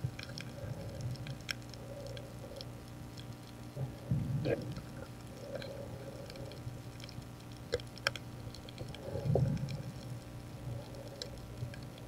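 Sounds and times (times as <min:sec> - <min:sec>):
low steady underwater hum: 0:00.0 - 0:12.0
underwater clicks and crackles: 0:00.0 - 0:12.0.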